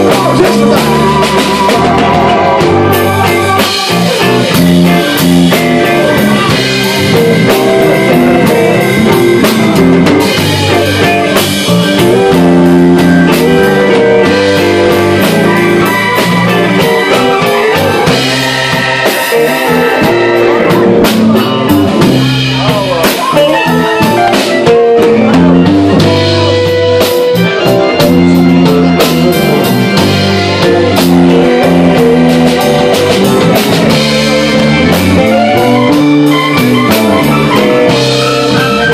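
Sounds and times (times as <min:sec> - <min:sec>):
bass: 0:00.0 - 0:38.9
drums: 0:00.0 - 0:38.9
electric guitar lead: 0:00.0 - 0:38.9
keyboard: 0:00.0 - 0:38.9.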